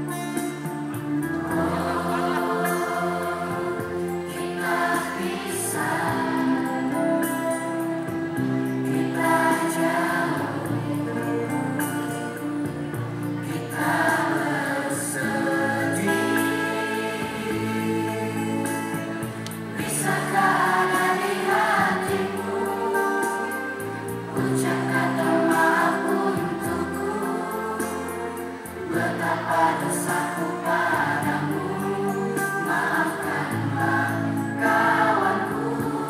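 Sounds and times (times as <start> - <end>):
children's choir singing: 0.0 - 36.0.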